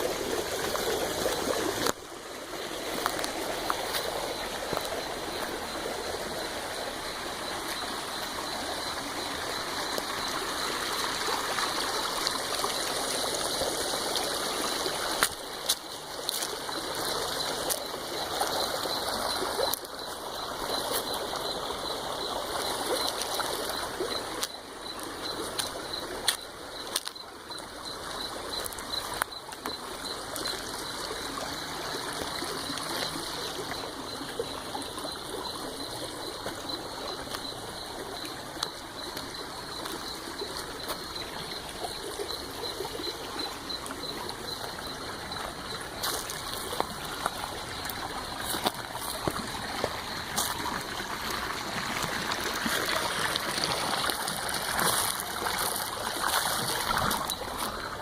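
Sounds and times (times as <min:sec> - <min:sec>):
running water stream: 0:00.0 - 0:58.0.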